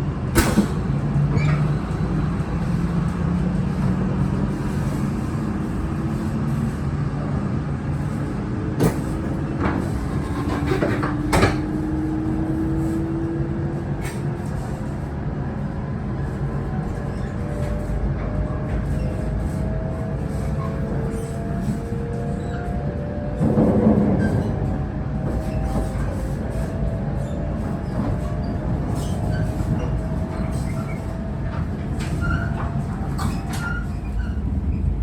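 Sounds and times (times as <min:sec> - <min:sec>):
train interior rumble: 0:00.0 - 0:35.0.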